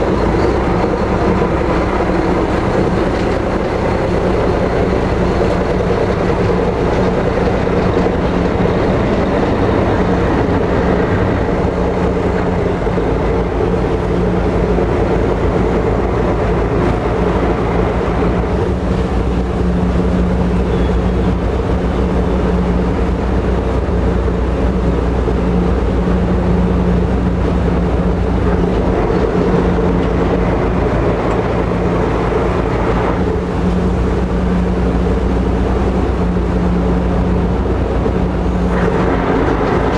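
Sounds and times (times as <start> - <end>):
ferry engines droning: 0.0 - 39.9
rushing noise: 0.0 - 39.9.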